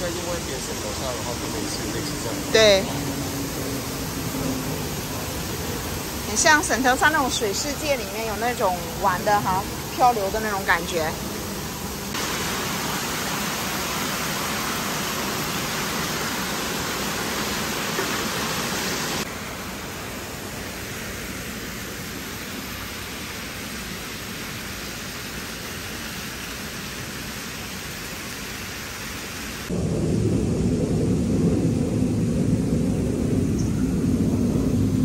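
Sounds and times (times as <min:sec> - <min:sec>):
dull steady rush: 0:00.0 - 0:25.3, 0:29.6 - 0:35.0
fountain water splashing into pool: 0:00.0 - 0:29.8.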